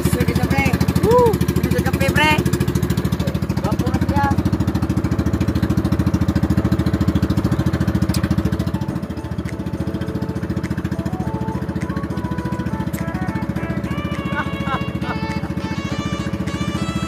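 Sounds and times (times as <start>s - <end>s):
boat engine puttering: 0.0s - 17.0s.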